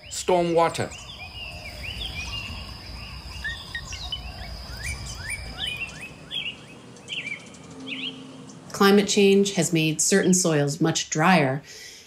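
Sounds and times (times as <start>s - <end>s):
steady high whine: 0.0s - 9.9s
birds chirping: 0.0s - 11.2s.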